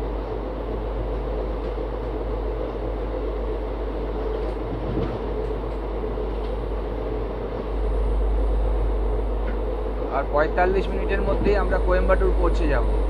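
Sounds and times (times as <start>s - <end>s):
train wheels rushing and rumbling: 0.0s - 13.0s.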